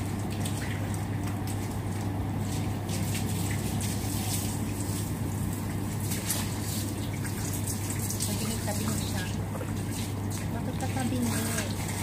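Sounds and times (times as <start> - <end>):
steady low hum: 0.0 - 12.0
water running from a hose: 0.0 - 12.0.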